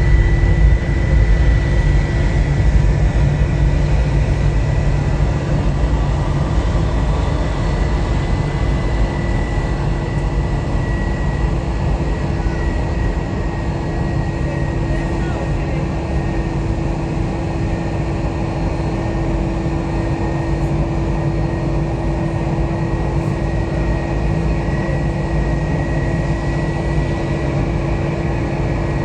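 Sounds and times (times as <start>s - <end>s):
jet engines rumbling and whining: 0.0s - 29.0s.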